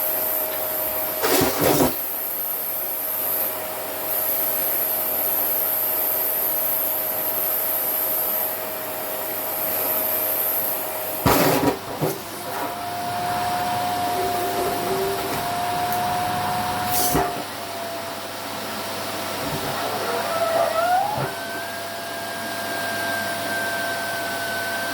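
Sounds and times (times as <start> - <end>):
vacuum cleaner whine: 0.0 - 24.9.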